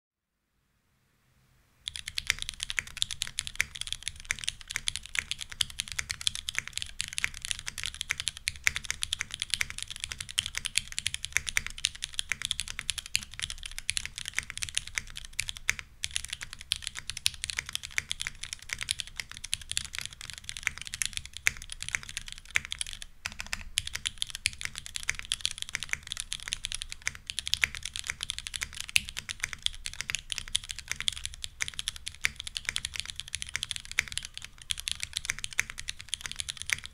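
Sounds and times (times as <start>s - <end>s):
fast typing on mechanical keyboard: 1.9s - 36.9s.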